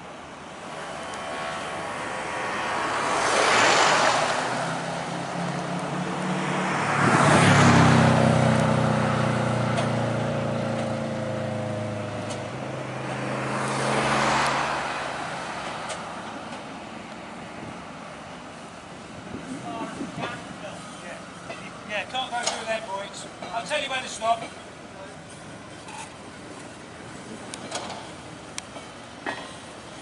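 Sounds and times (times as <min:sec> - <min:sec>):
low steady engine hum: 0:00.0 - 0:30.0
vehicles passing close by: 0:00.0 - 0:30.0.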